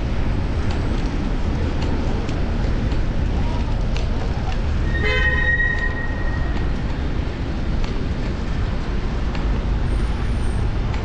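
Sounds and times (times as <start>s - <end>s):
road rumble: 0.0s - 11.0s
wind: 0.0s - 11.0s.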